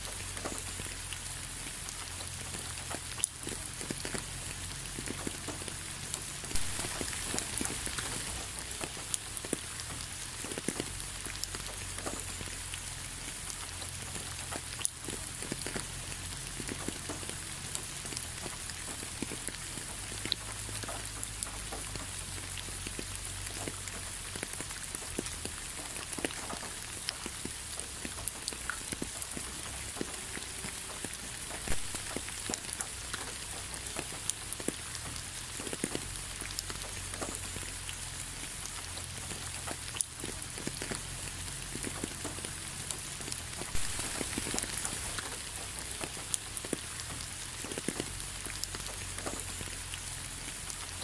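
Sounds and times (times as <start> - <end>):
steady rainfall: 0.0 - 51.0.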